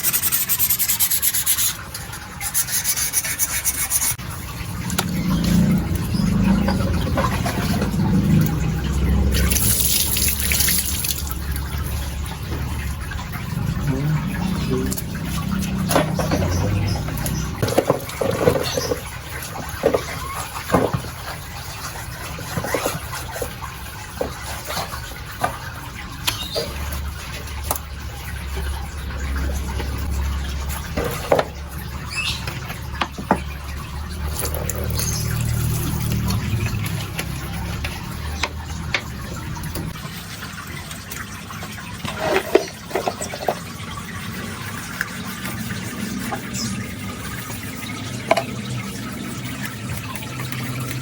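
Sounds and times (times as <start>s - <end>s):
water running and splashing: 0.0s - 51.0s.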